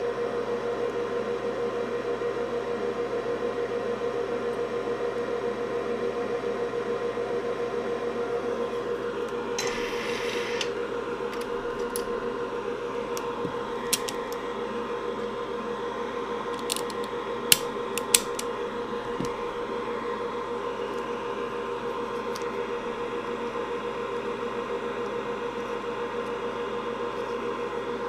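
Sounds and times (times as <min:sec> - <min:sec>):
fume extractor fan hum: 0:00.0 - 0:28.0.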